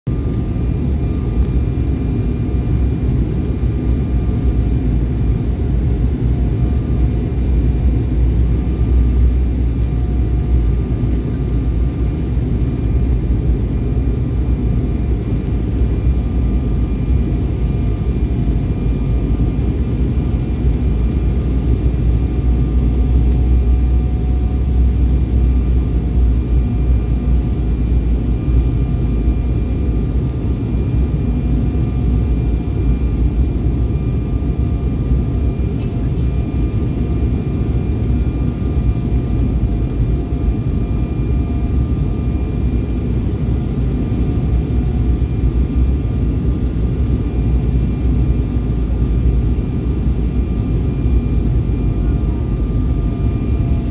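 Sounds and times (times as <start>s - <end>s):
faint whining tones: 0.1s - 53.9s
jet cabin rumble: 0.1s - 53.9s.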